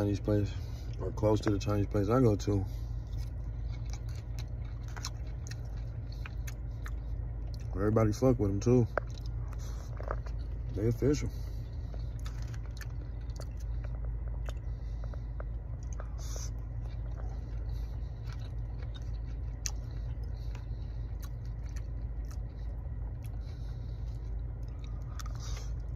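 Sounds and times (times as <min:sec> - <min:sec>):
car interior hum: 0:00.0 - 0:25.9
person chewing food: 0:00.2 - 0:25.9.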